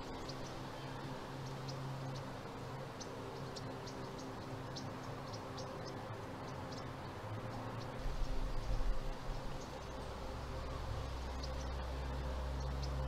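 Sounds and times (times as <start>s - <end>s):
insects ticking: 0.0s - 13.0s
low steady hum: 0.0s - 13.0s.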